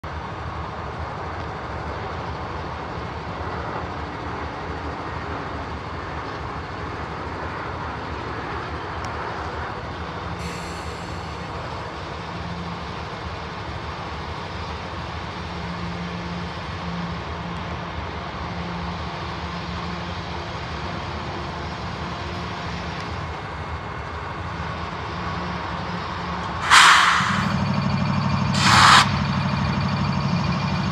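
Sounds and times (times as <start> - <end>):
diesel locomotives idling: 0.1 - 30.9.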